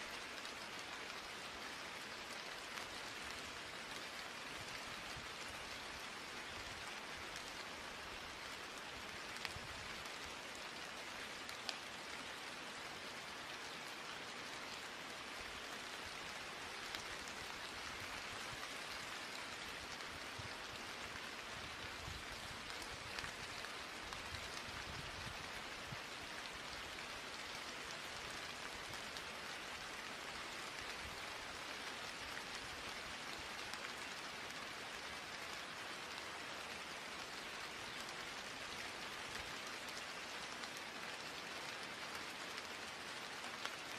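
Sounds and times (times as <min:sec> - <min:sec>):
steady rain falling: 0:00.0 - 0:43.9
raindrop ticks: 0:00.2 - 0:12.6, 0:14.7 - 0:43.9.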